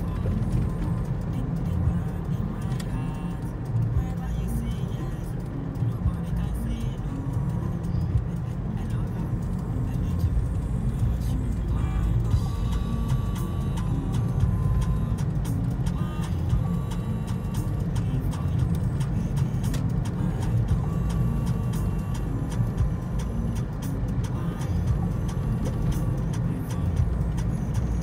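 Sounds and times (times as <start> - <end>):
car cabin road noise: 0.0 - 28.0.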